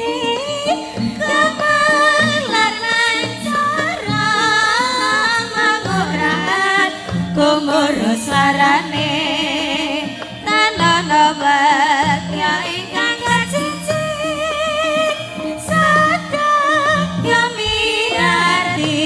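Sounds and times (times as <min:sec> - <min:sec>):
gamelan ensemble: 0:00.0 - 0:19.0
woman singing: 0:00.0 - 0:19.0.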